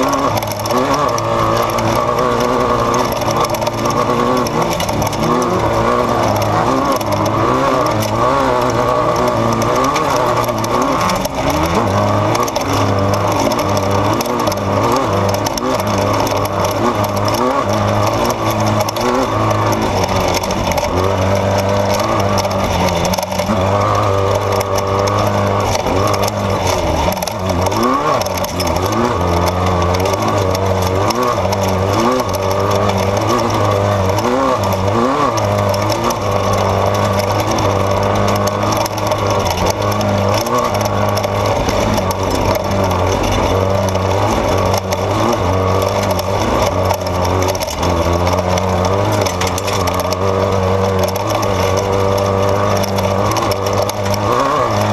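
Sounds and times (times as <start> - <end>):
vehicle engine revving hard: 0.0 - 54.9.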